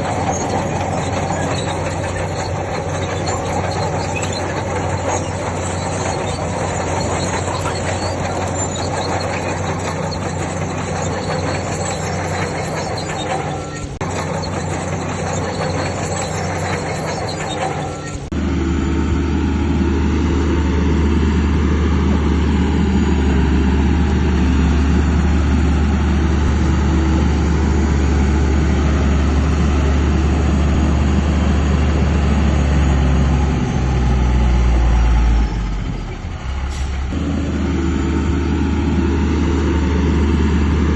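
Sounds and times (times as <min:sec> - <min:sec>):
clanking squealing crawler tracks: 0:00.0 - 0:40.9
diesel engine running: 0:00.0 - 0:40.9.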